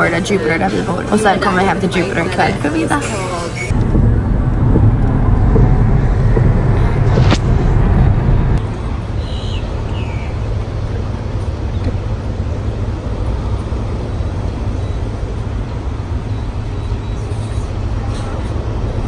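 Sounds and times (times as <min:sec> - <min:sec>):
outdoor traffic hum: 0:00.0 - 0:19.0
road noise inside car: 0:03.6 - 0:19.0.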